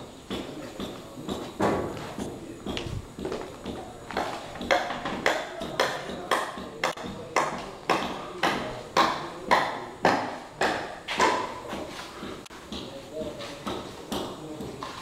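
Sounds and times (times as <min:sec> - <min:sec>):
footsteps on concrete floor: 0:00.0 - 0:09.4, 0:10.3 - 0:15.0.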